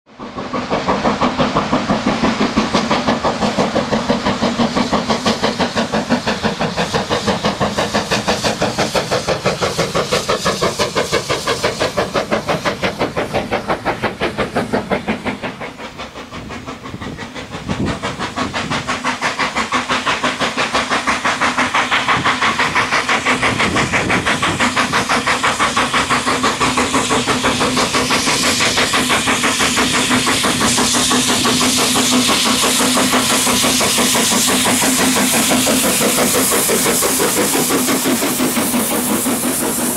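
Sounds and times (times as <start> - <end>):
steam locomotive exhaust beats: 0.1 - 39.9.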